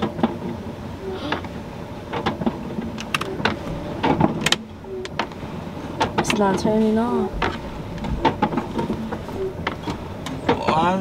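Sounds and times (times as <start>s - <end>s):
wiper motor running: 0.0s - 11.0s.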